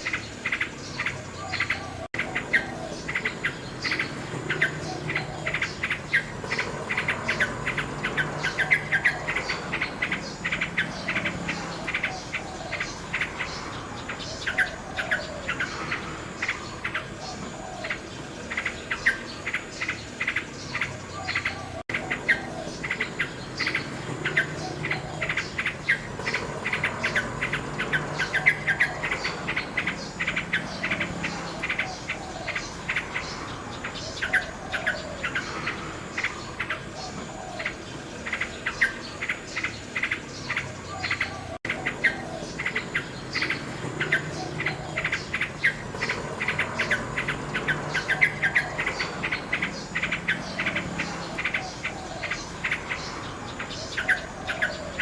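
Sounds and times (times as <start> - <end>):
insects chirring: 0.0 - 55.0
nightingale singing: 0.0 - 55.0.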